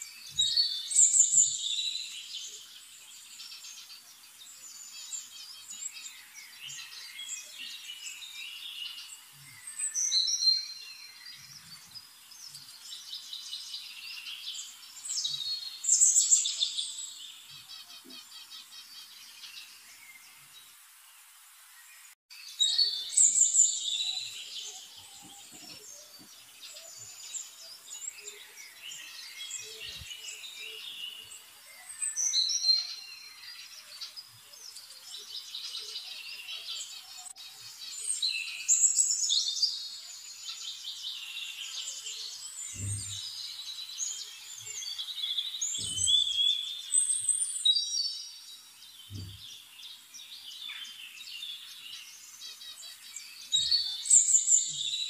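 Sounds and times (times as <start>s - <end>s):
birds chirping and singing: 0.0s - 20.7s, 22.0s - 55.0s.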